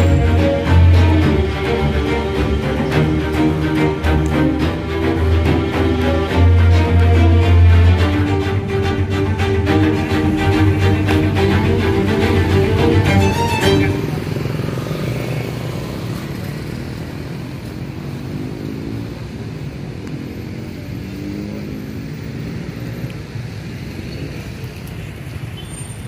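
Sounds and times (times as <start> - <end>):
street traffic engines: 0.0 - 26.0.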